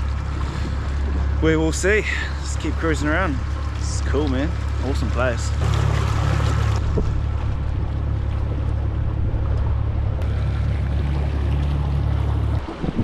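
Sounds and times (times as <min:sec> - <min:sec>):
outboard motor droning: 0:00.0 - 0:13.0
rush of wind and water: 0:00.0 - 0:13.0.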